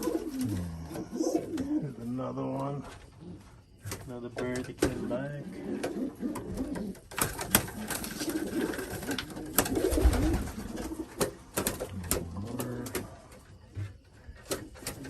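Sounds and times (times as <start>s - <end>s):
pigeons cooing: 0.0s - 3.6s, 5.0s - 15.0s.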